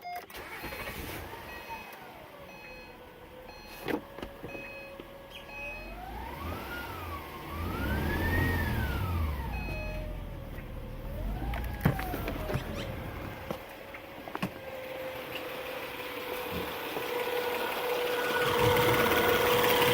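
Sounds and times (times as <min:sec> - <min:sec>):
car engine whine revving: 0:00.4 - 0:19.9.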